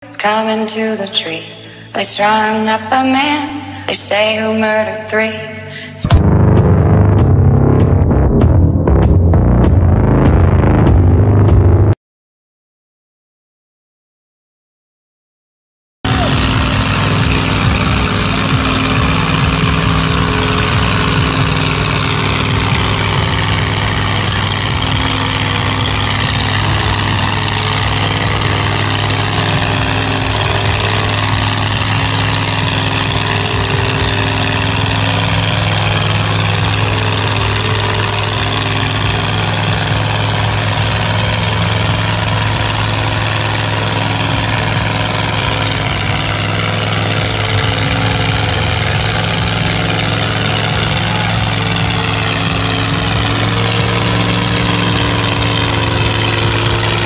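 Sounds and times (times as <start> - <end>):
truck engine running: 0.0 - 12.0, 16.0 - 57.0.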